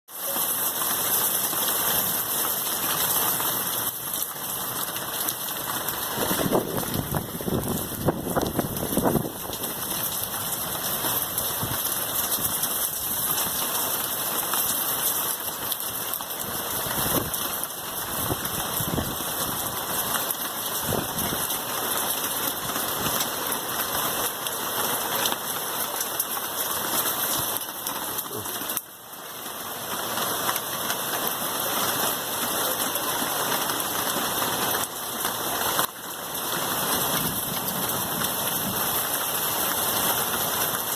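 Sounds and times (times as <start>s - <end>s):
heavy rain hissing: 0.2s - 40.9s.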